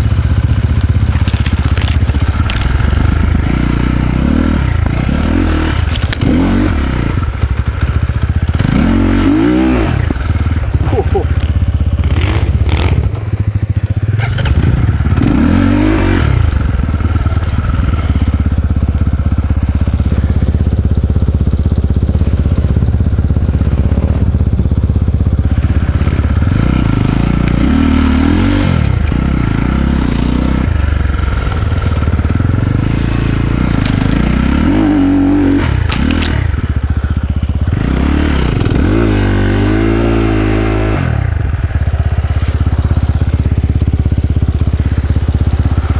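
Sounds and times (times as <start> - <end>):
dirt bike engine revving: 0.0 - 20.6, 21.8 - 45.9
bike rattling over rough ground: 0.0 - 45.9.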